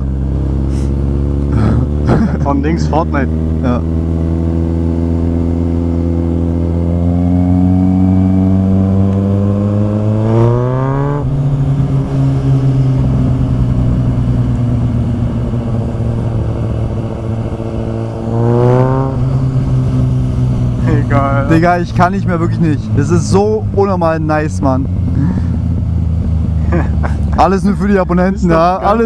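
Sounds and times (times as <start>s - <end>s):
motorcycle engine revving loud: 0.0s - 29.0s.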